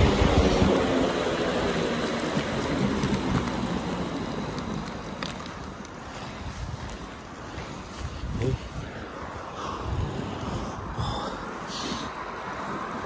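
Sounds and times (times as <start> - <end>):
skate wheels rolling on asphalt: 0.0 - 13.0.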